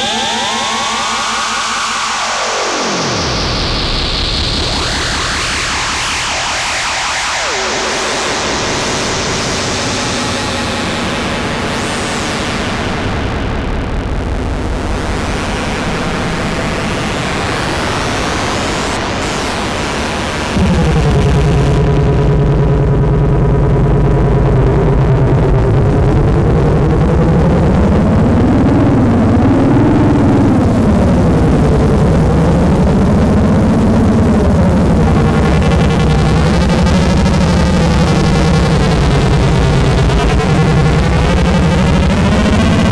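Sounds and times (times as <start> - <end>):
low pulsing drone with warbling tones: 0.0 - 42.9.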